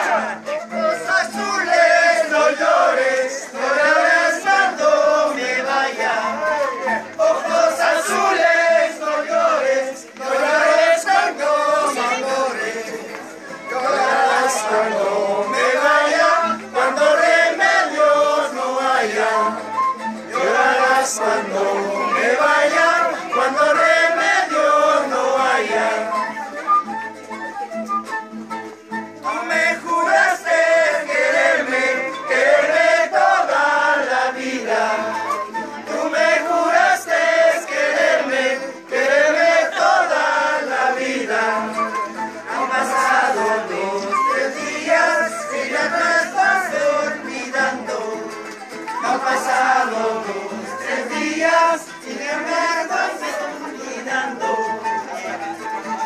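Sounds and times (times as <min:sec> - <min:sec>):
group singing folk song in chorus: 0:00.0 - 0:27.0, 0:28.6 - 0:56.0
guitar: 0:00.0 - 0:56.0.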